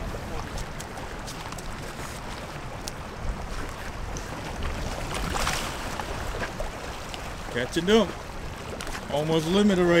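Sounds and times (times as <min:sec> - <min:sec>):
waves washing against concrete: 0:00.0 - 0:10.0
wind rumbling on microphone: 0:00.0 - 0:10.0.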